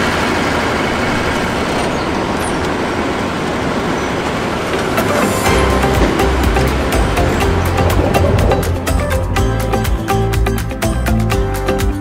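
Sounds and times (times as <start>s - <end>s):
train rolling across metal bridge: 0.0s - 10.1s.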